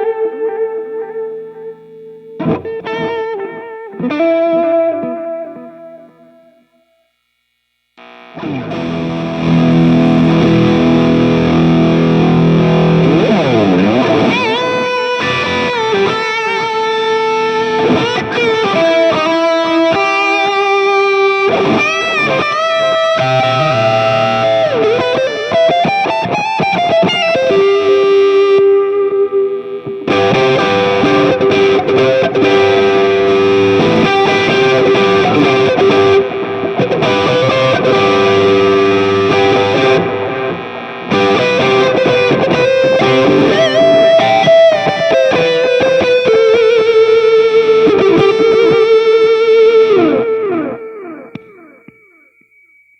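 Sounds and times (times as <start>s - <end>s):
electric guitar: 0.0s - 52.7s.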